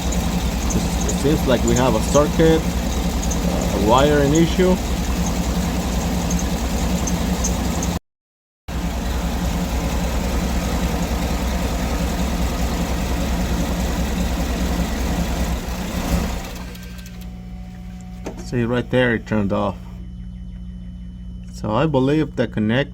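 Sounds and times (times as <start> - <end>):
car engine idling: 0.0 - 8.0, 8.7 - 20.7.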